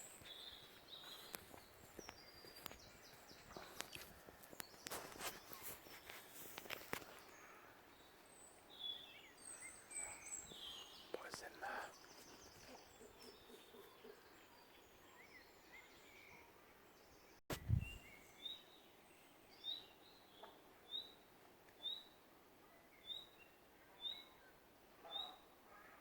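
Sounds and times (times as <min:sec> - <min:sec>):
bird chirping: 0:00.0 - 0:21.2
forest background: 0:00.0 - 0:26.0.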